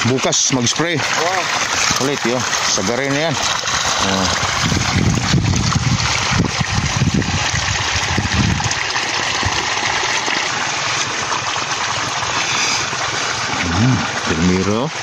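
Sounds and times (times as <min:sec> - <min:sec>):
water gushing from hose: 0:00.0 - 0:15.0.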